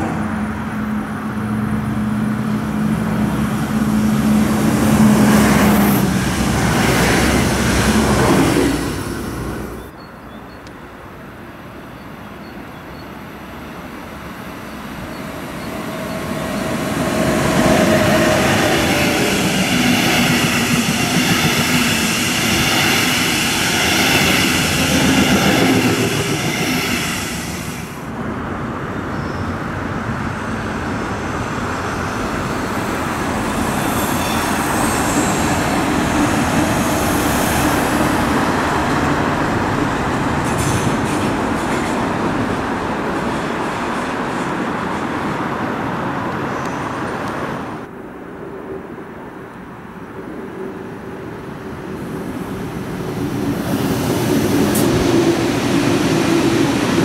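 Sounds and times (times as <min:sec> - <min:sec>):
rail noise: 0:00.0 - 0:57.0
train passing with low hum: 0:00.0 - 0:57.0.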